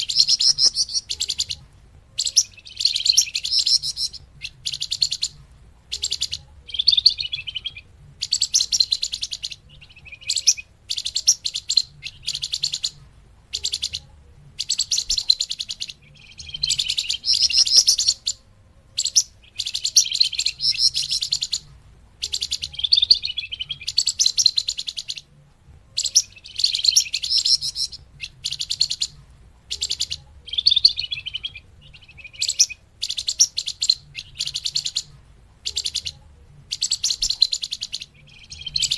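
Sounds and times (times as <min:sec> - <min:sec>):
bird chattering trills: 0:00.0 - 0:18.4, 0:19.0 - 0:25.3, 0:25.9 - 0:38.9.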